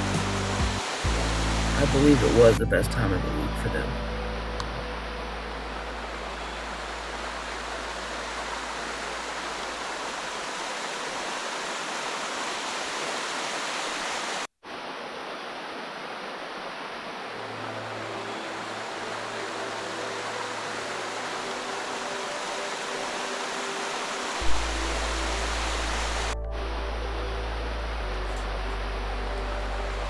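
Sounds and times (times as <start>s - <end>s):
rushing creek and waterfall: 0.0s - 30.0s.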